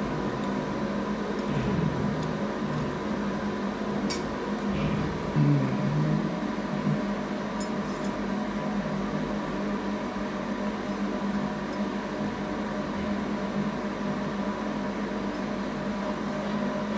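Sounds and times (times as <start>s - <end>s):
machine hum: 0.0s - 16.9s.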